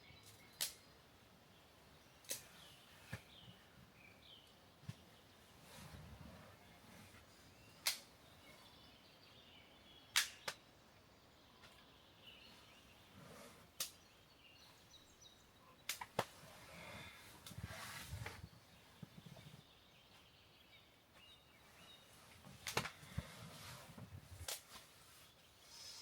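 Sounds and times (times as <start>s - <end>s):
faint bird chirps: 0.0s - 23.2s.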